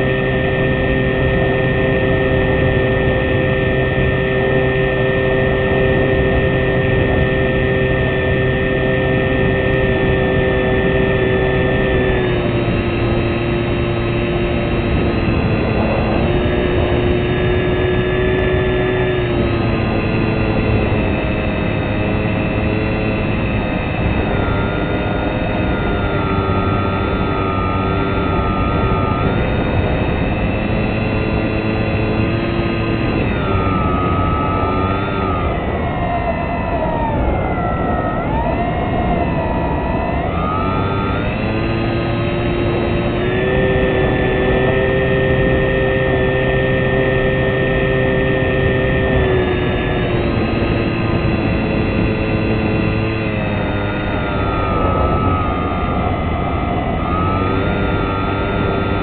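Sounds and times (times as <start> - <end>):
model aircraft motor and propeller: 0.0 - 59.0.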